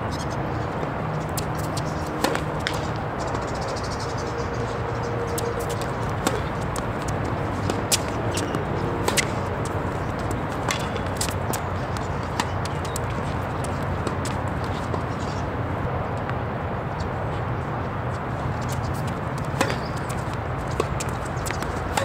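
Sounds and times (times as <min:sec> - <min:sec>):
tennis balls struck and bouncing: 0:00.2 - 0:16.4, 0:18.4 - 0:22.0.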